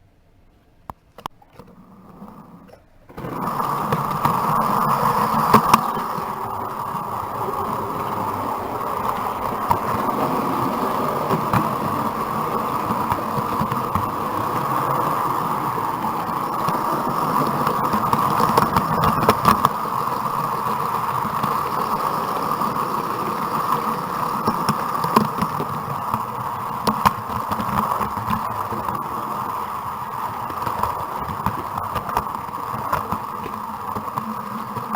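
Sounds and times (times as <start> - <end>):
wheels clicking over rail joints: 1.2 - 34.9
model train motor whirring: 1.4 - 34.9.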